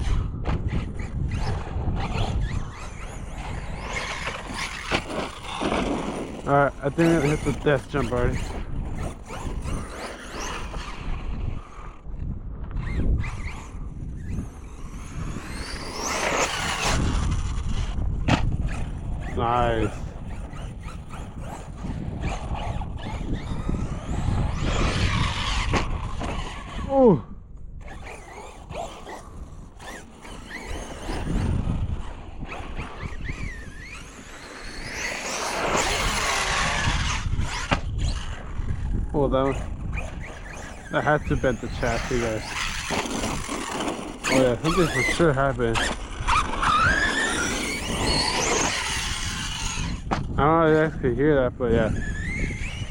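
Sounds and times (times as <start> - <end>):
toy car motor whining: 0.0 - 12.0, 12.6 - 27.2, 27.8 - 51.0, 51.6 - 52.9
wind rumbling on microphone: 0.0 - 52.9.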